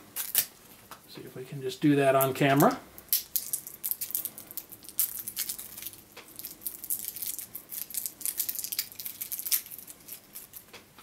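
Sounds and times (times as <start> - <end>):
plastic wrapping crinkling: 2.2 - 11.0.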